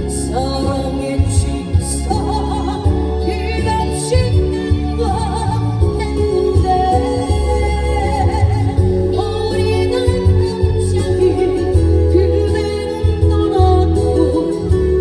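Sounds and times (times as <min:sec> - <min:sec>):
steady bass: 0:00.0 - 0:15.0
woman singing with vibrato: 0:00.0 - 0:15.0.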